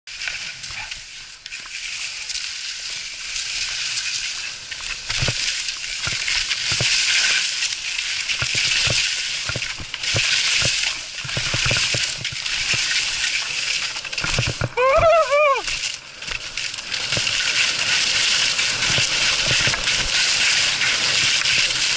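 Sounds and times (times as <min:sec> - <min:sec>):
skis hissing through snow: 0:00.1 - 0:14.4, 0:16.8 - 0:21.9.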